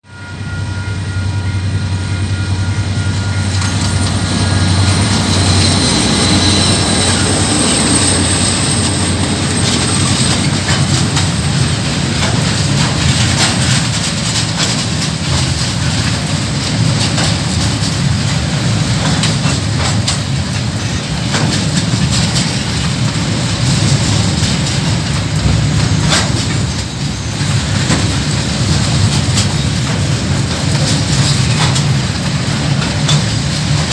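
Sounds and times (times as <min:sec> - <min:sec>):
locomotive engine drone: 0:00.0 - 0:33.9
wagons rumbling and clacking: 0:00.5 - 0:33.9.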